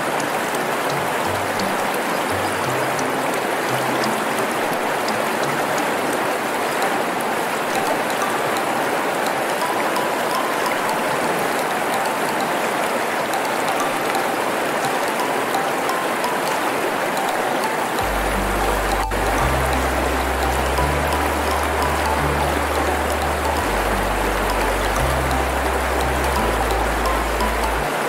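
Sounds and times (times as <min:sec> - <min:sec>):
faint drip-like ticks: 0:00.0 - 0:28.0
rushing water: 0:00.0 - 0:28.0.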